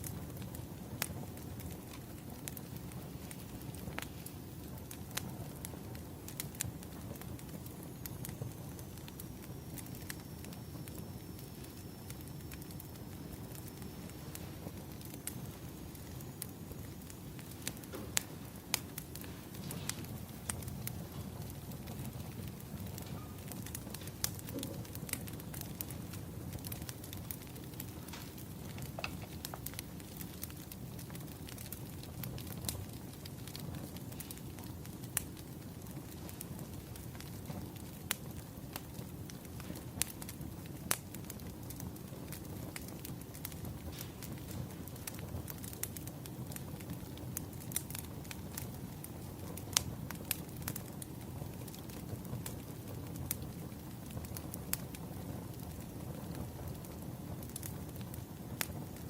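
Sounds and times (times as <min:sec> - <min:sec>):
fire crackles and pops: 0:00.0 - 0:59.0
firewood burning rumble: 0:00.0 - 0:59.0.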